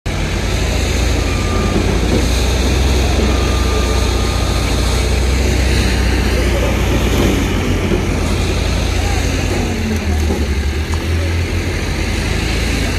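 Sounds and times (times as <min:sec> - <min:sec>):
diesel engine humming: 0:00.0 - 0:12.9.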